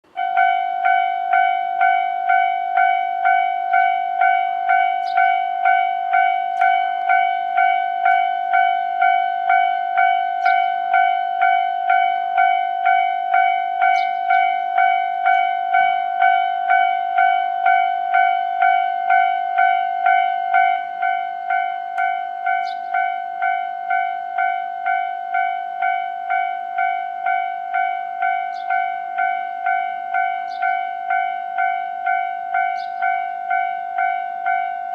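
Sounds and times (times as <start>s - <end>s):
level crossing warning bell ringing: 0.0s - 34.9s.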